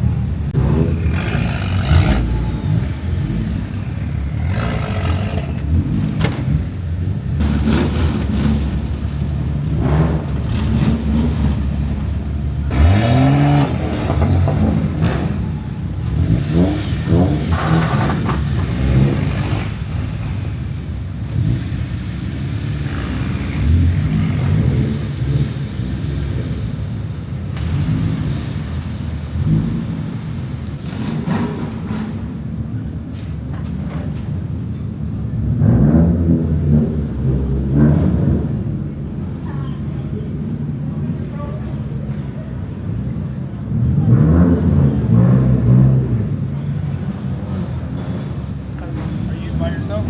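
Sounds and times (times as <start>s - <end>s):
car engines rumbling and revving: 0.0s - 50.0s.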